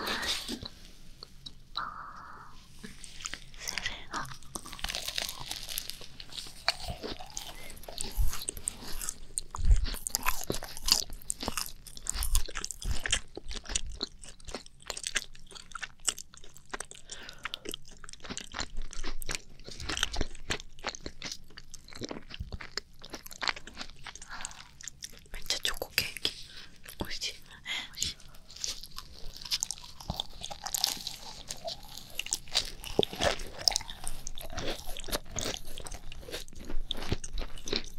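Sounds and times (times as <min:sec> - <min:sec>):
people chewing crunchy cookies: 0:00.0 - 0:37.9.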